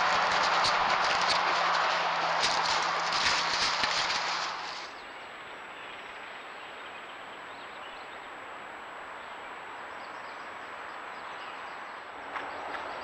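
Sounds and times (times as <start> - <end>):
outdoor background hiss: 2.0 - 13.0.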